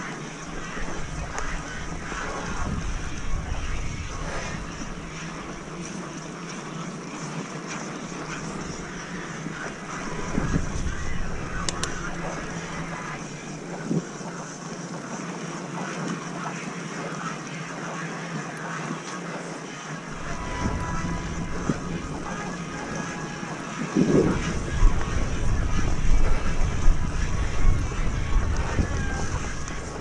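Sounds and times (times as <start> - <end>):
wind buffeting microphone: 0.0 - 14.8, 20.1 - 30.0
bike tyre and drivetrain noise: 0.0 - 16.8, 20.0 - 30.0.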